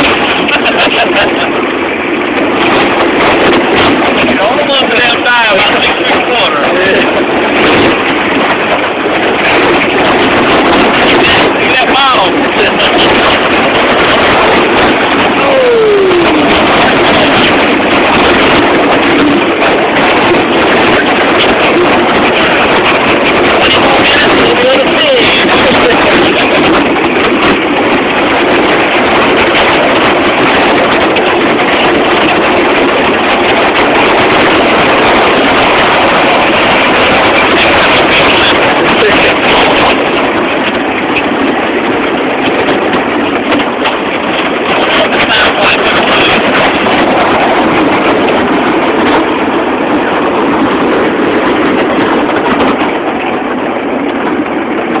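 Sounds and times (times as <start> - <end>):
boat motor: 0.0 - 55.0.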